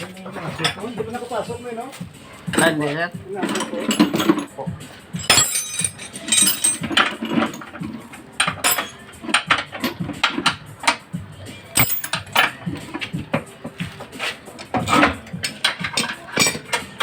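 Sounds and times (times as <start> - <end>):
hand tools clanking on metal: 0.0 - 17.0.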